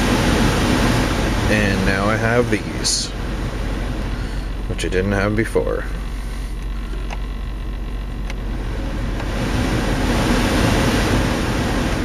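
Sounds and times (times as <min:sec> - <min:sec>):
blower fan blowing air: 0:00.0 - 0:12.0.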